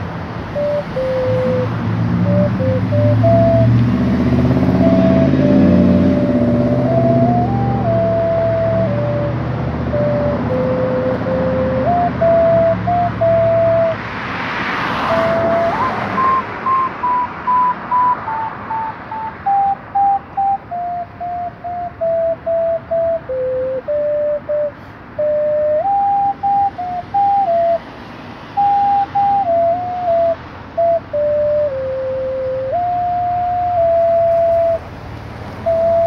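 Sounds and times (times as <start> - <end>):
whistle-like wind instrument melody: 0.0 - 14.1, 14.7 - 36.0.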